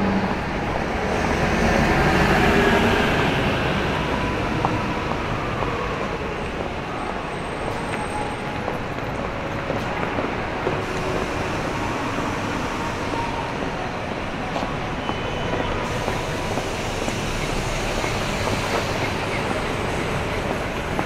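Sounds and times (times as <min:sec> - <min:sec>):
rumble of passing traffic: 0:00.0 - 0:21.0.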